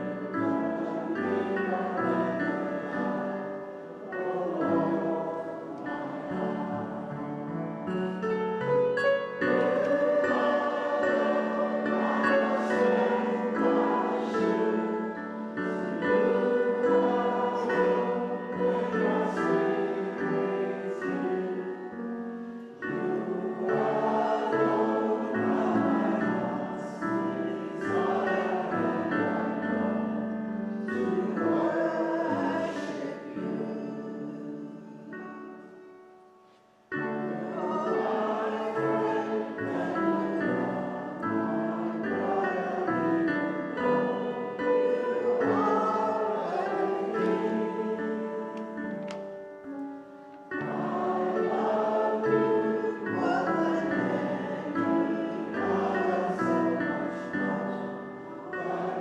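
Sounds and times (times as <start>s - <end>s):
group singing a hymn: 0.0s - 35.6s, 36.5s - 49.4s, 50.4s - 59.0s.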